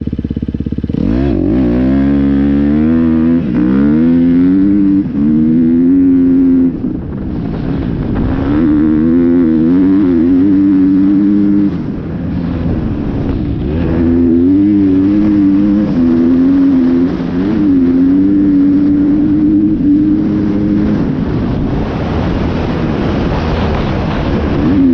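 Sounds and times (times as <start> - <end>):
dirt bike engine accelerating: 0.0 - 24.9.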